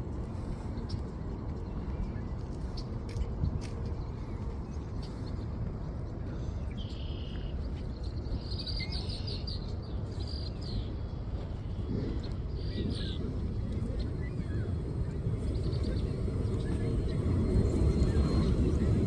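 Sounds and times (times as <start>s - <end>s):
steady low rumble: 0.0s - 19.0s
songbirds chirping: 0.4s - 19.0s.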